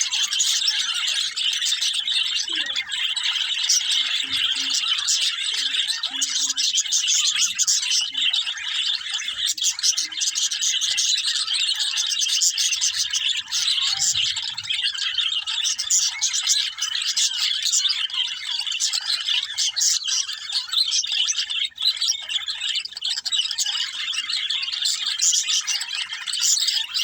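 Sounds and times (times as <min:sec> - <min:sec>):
budgerigars chirping: 0:00.0 - 0:27.0.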